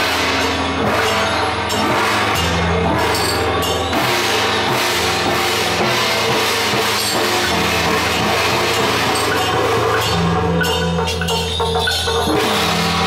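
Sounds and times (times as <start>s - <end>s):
gongs and cymbals clashing: 0.0s - 13.0s.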